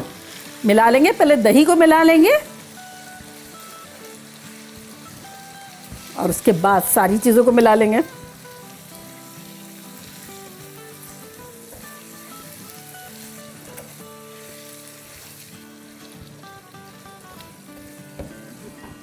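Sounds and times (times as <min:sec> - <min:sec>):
meat sizzling in a pan: 0:00.0 - 0:19.0.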